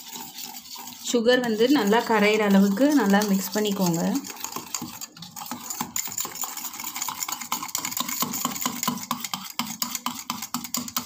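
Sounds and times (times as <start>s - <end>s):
whisk clicking in steel bowl: 0.0s - 11.0s.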